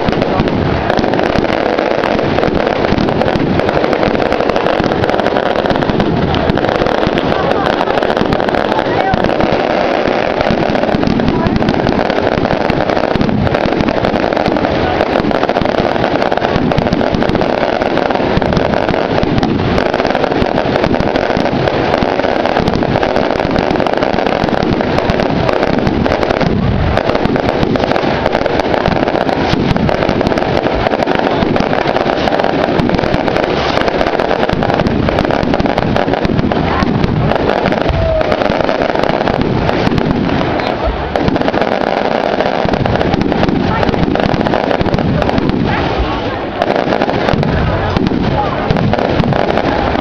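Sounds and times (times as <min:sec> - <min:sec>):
bonfire crackling and popping: 0:00.0 - 0:50.0
fire low rumble: 0:00.0 - 0:50.0.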